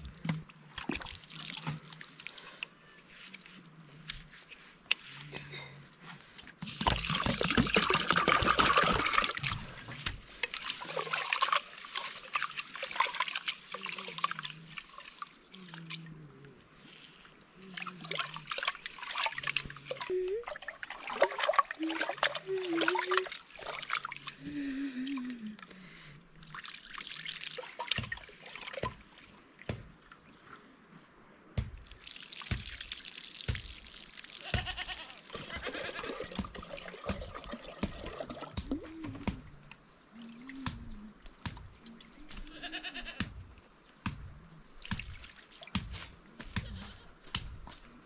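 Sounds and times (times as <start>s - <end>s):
water splashing and trickling: 0.0s - 48.0s.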